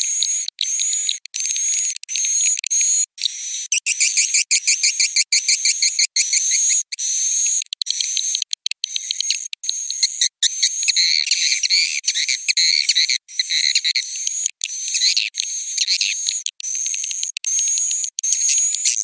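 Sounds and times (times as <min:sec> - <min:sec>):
swiftlets twittering: 0:03.6 - 0:19.0.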